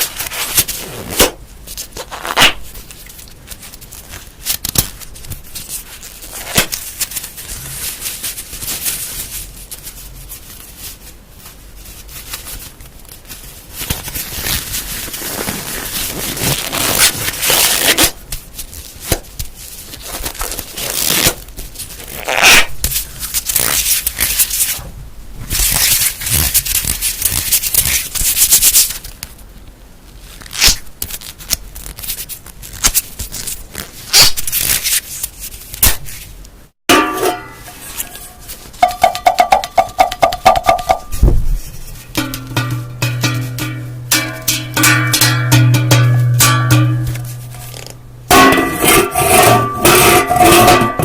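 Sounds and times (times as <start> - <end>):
objects rustling and scratching: 0.0 - 29.2, 31.8 - 51.0.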